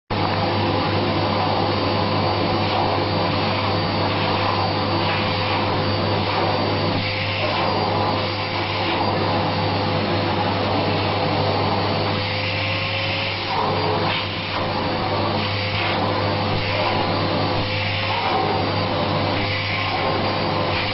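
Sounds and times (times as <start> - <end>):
vacuum cleaner running: 0.1 - 20.9.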